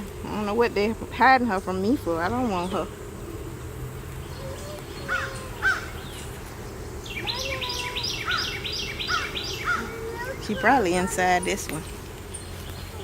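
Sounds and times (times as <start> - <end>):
birds calling: 0.0 - 13.0
honeybees humming: 0.0 - 13.0.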